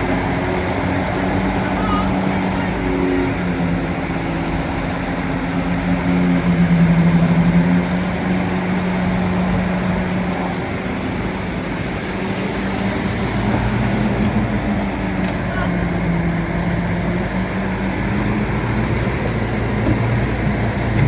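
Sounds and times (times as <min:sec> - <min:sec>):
bulldozer engine under load: 0:00.0 - 0:21.0.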